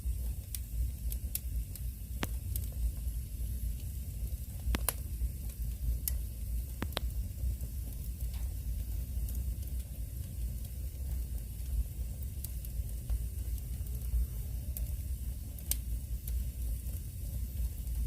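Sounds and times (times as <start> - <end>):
firewood crackling and popping: 0.0 - 18.0
low rumble and hiss of fire: 0.0 - 18.0.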